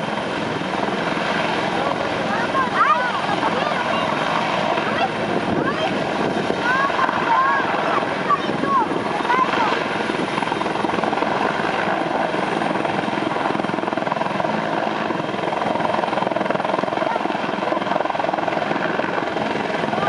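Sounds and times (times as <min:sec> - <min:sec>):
helicopter rotors chopping: 0:00.0 - 0:20.0.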